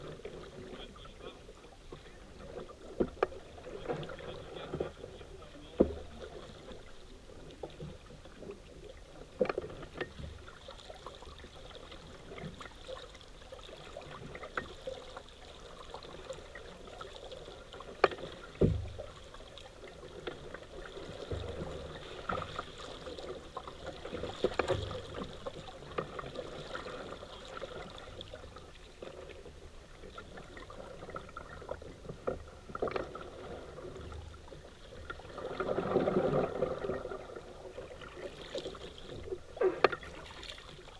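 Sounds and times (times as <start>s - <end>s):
water splashing around paddle: 0.0s - 40.9s.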